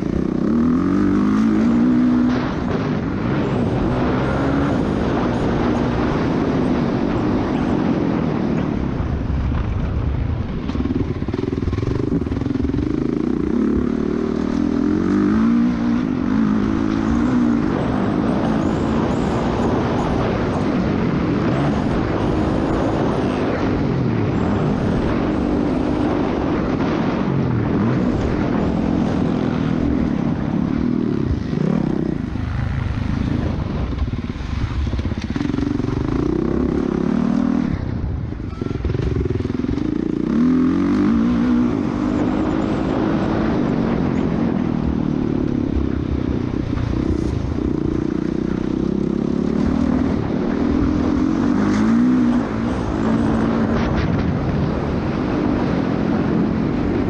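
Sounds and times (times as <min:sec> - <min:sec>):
dirt bike engine revving: 0:00.0 - 0:08.6, 0:10.7 - 0:57.0.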